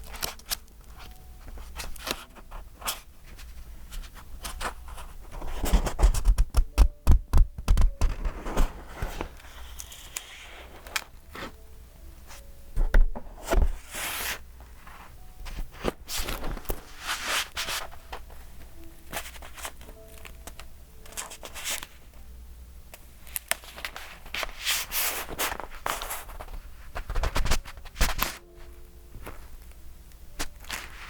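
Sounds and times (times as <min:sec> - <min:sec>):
paper pages turning: 0:00.0 - 0:07.0, 0:07.6 - 0:11.6, 0:12.9 - 0:22.2, 0:23.2 - 0:28.5, 0:30.3 - 0:31.0.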